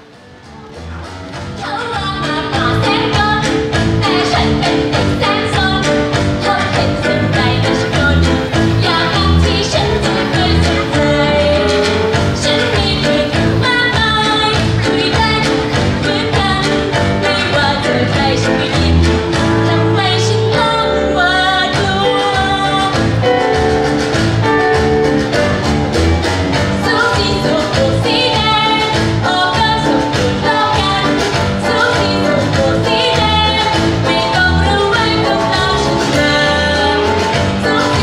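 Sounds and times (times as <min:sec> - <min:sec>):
music with steady beat: 0:00.0 - 0:38.0
woman singing: 0:01.6 - 0:23.6, 0:26.7 - 0:38.0.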